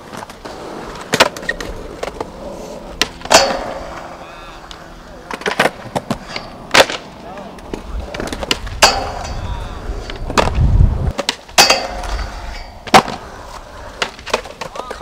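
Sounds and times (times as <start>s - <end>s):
skateboard clacking on ground: 0.0s - 15.0s
skateboard wheels rolling on concrete: 0.0s - 15.0s.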